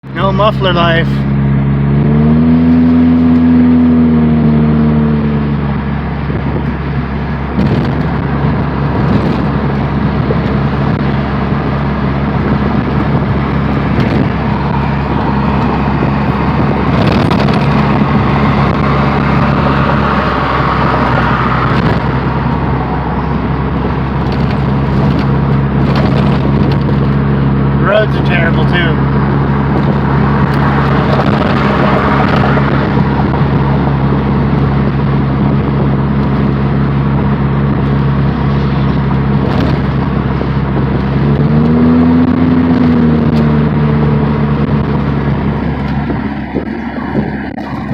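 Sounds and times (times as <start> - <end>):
loud car engine driving: 0.0 - 47.9.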